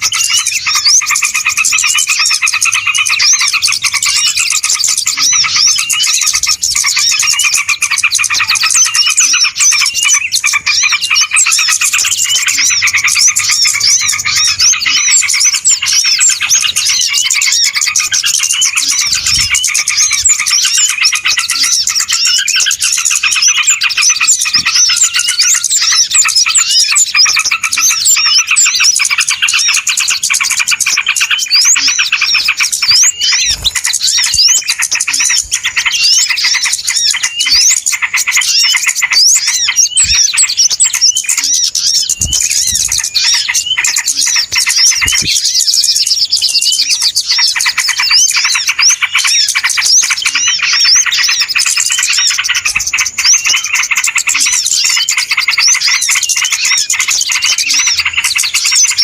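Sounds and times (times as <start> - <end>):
small birds chirping and trilling: 0.0 - 59.0.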